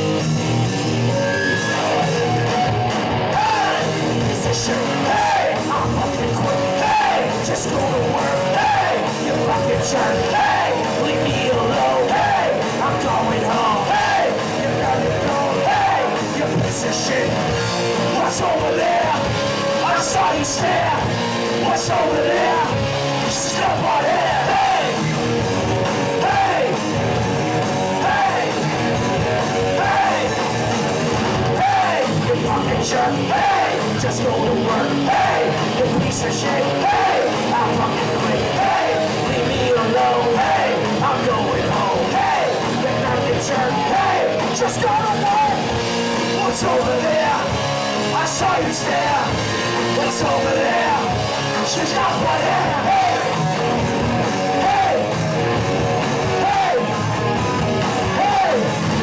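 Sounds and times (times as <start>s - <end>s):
live rock band playing: 0.0s - 59.0s
voices singing and shouting: 0.9s - 59.0s.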